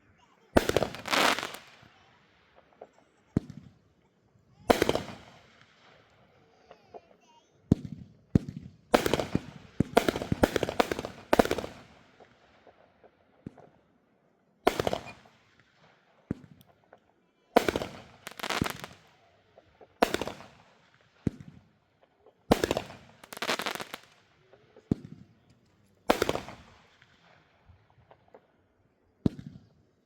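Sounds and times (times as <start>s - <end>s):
fireworks bangs and crackling: 0.4s - 3.9s, 4.5s - 13.9s, 14.6s - 30.0s.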